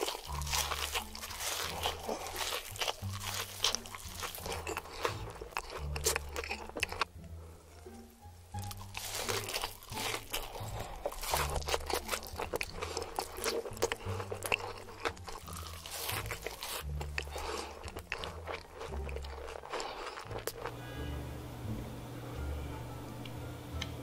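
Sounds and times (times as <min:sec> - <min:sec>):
crunching fried food: 0:00.0 - 0:07.1, 0:08.5 - 0:20.8.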